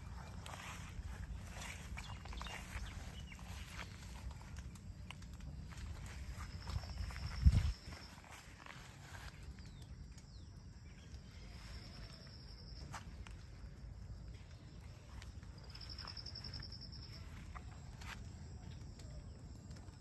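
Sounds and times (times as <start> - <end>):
faint low rumble: 0.0 - 20.0.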